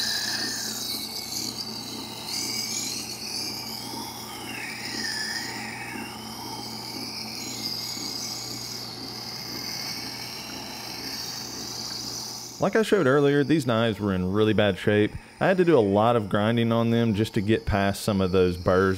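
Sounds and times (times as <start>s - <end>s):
faint wavering tone: 0.0s - 18.9s
knife grinding on wet wheel: 0.0s - 18.9s
motor hum: 0.0s - 18.9s.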